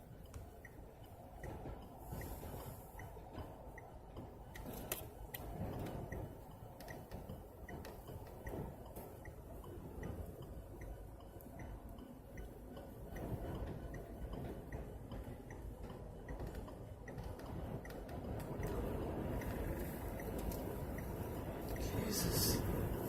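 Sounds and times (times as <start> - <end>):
indicator flasher ticking: 0.0 - 23.0
wind buffeting vehicle: 0.0 - 23.0.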